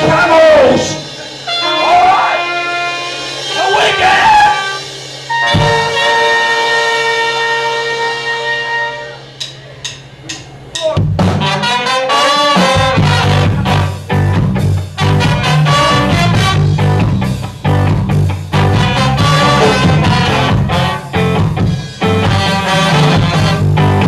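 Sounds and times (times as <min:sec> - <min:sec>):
ska band playing: 0:00.0 - 0:24.0
held horn chord: 0:01.1 - 0:09.4, 0:11.4 - 0:17.1, 0:18.6 - 0:24.0.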